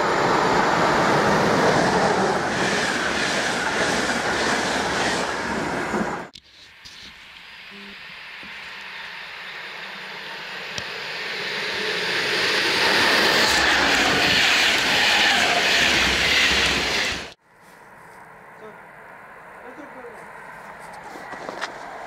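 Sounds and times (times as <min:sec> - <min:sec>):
electric locomotive passing: 0:00.0 - 0:06.3, 0:07.1 - 0:17.4, 0:18.2 - 0:22.0.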